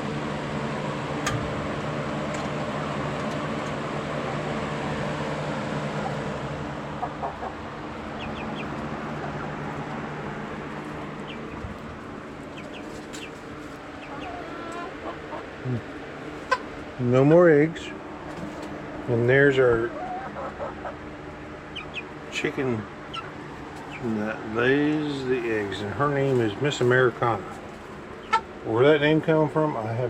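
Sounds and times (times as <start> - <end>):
steady mechanical hum: 0.0 - 30.0
chickens clucking: 2.6 - 16.9, 19.5 - 30.0.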